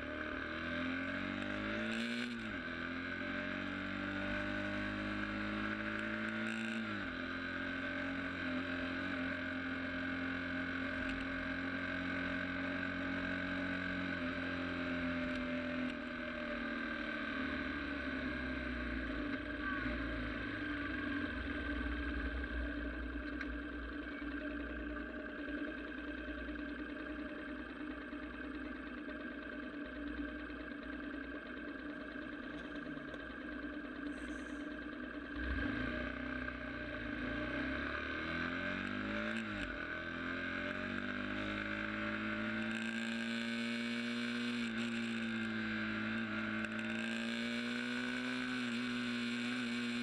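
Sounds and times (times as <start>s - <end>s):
sport motorcycle engine revving: 0.0s - 50.0s.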